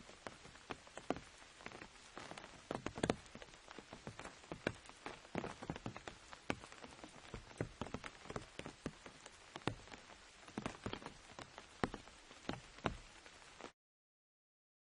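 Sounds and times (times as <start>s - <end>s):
rain on an umbrella: 0.0s - 13.8s.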